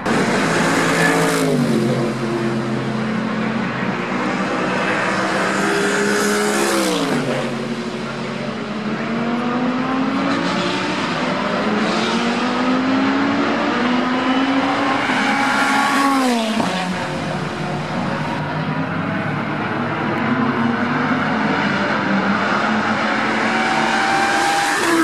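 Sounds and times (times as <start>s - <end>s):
race cars passing: 0.0s - 25.0s.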